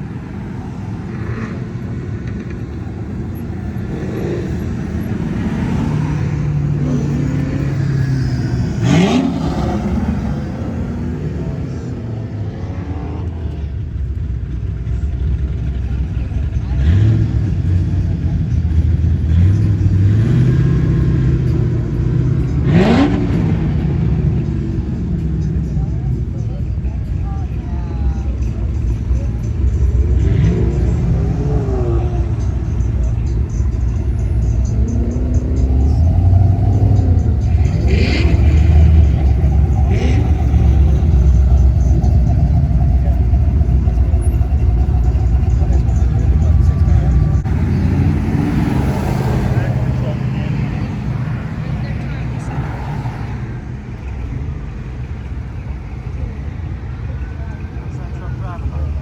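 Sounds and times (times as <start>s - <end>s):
car engine revving: 0.0s - 27.1s, 27.7s - 59.0s
car engines cruising by: 0.0s - 59.0s.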